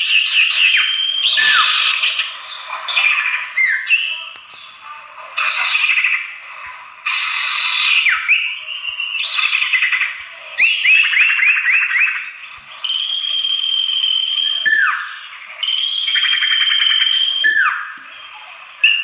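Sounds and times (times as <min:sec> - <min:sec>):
bird chirps and whistles: 0:00.0 - 0:04.3, 0:05.4 - 0:06.3, 0:07.1 - 0:18.1, 0:18.8 - 0:19.0
background bird twittering: 0:00.0 - 0:04.8, 0:07.1 - 0:19.0.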